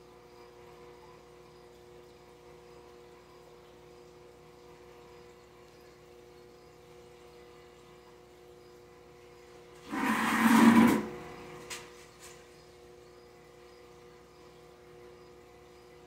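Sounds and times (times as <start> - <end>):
pump hum: 0.0 - 16.0.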